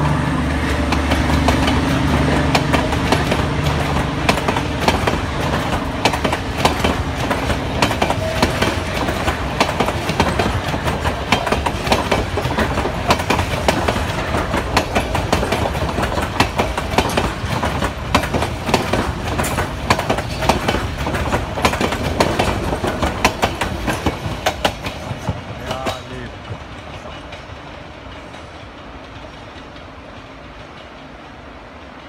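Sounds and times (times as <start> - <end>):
train rumble: 0.0 - 32.0
train wheels clattering over rail joints: 0.6 - 31.3.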